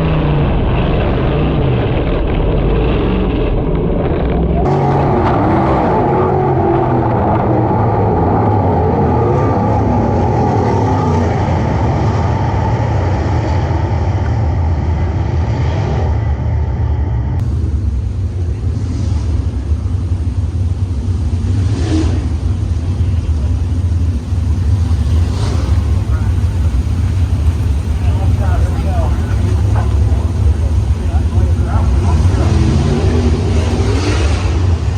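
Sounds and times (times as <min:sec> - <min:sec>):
race car engines running hard: 0:00.0 - 0:34.9.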